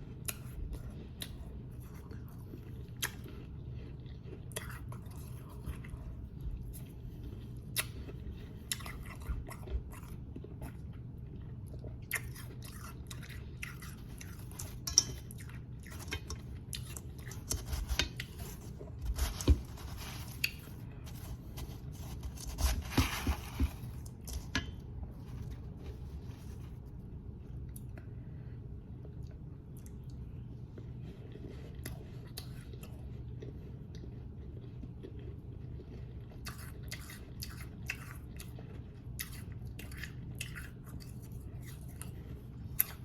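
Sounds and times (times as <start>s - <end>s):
crunching and chewing ice: 0.0s - 26.0s, 30.8s - 43.0s.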